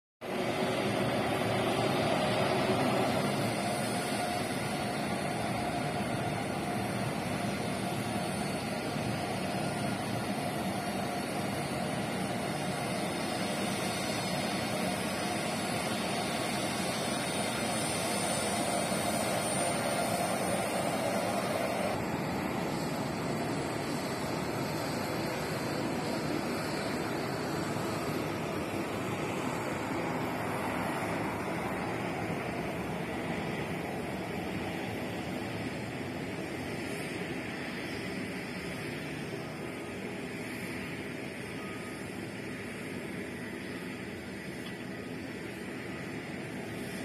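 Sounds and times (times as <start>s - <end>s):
jet engines running: 0.2s - 47.0s.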